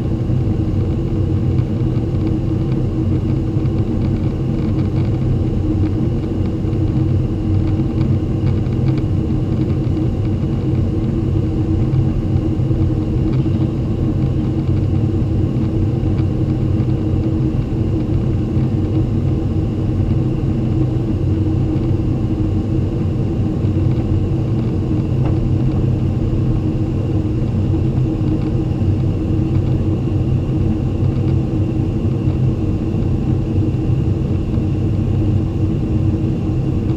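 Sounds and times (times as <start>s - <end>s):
jet engines droning in cabin: 0.0s - 36.9s.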